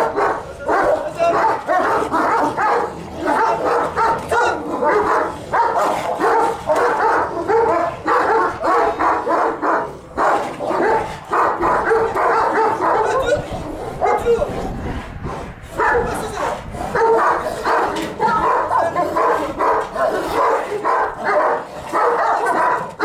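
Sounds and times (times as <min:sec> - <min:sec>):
dogs barking while fighting: 0:00.0 - 0:23.0.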